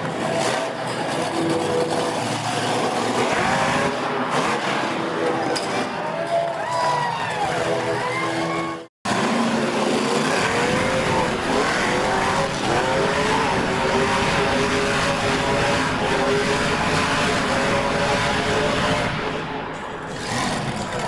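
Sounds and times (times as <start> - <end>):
truck engine revving hard: 0.0 - 6.1, 7.4 - 21.0.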